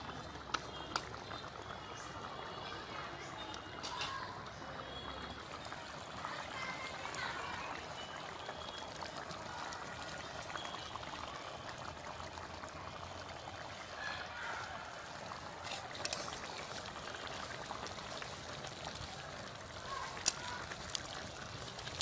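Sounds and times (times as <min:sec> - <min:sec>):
curry simmering and bubbling: 0:00.0 - 0:22.0.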